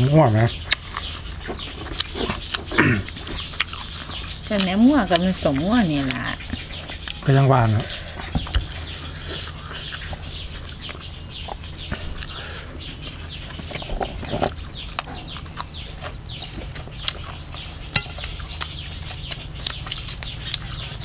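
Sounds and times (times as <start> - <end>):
chickens chirping and clucking: 0.0 - 21.0.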